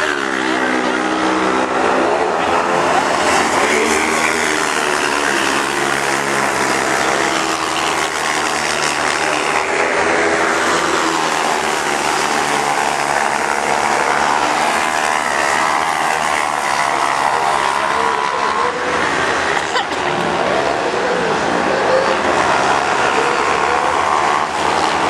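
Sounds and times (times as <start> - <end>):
high-revving race car engines: 0.0 - 25.0.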